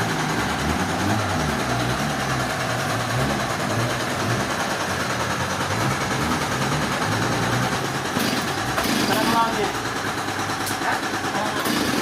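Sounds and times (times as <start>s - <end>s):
machine engine running: 0.0s - 12.0s.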